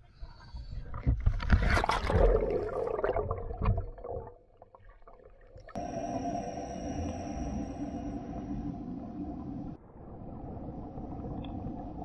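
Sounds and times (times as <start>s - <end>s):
underwater hum with high whine: 0.0s - 12.0s.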